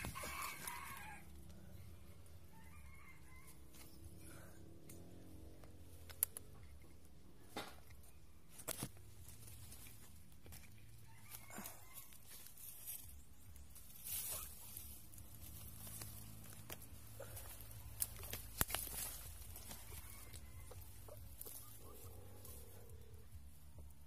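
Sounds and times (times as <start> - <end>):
dry twigs crackling: 0.0 - 2.3, 3.7 - 7.2, 7.9 - 24.0
low steady hum: 0.0 - 24.0.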